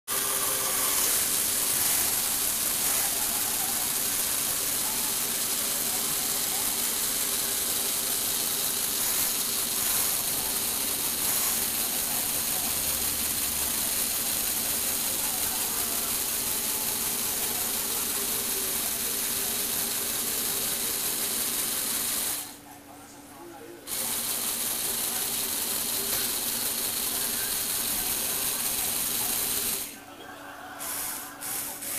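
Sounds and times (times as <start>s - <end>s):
small electric motor whirring gears: 0.1s - 22.5s, 23.9s - 29.9s.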